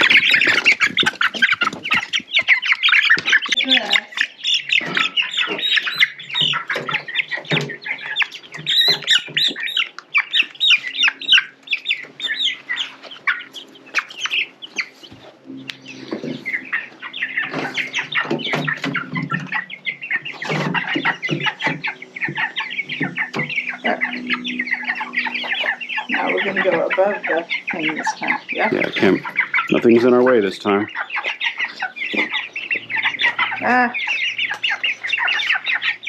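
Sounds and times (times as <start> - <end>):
chicks peeping: 0.0 - 36.0
clucking calls: 0.0 - 36.0.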